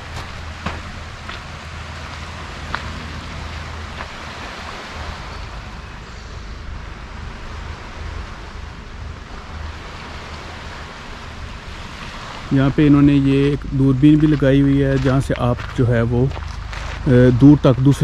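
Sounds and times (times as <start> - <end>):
small waves washing onto stony shore: 0.0 - 18.0
wind buffeting microphone: 0.0 - 18.0.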